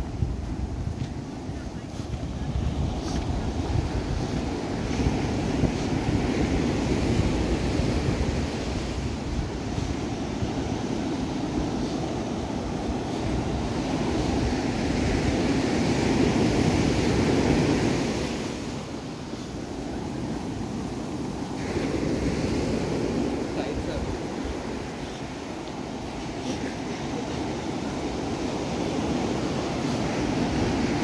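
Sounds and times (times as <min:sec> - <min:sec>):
surf washing onto beach: 0:00.0 - 0:31.0
wind buffeting microphone: 0:00.0 - 0:31.0.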